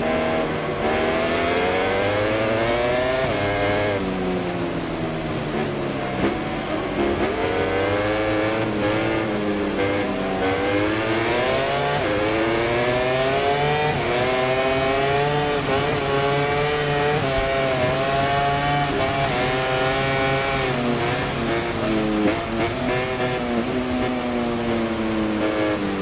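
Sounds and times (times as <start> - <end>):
motorcycle engine accelerating hard: 0.0 - 26.0.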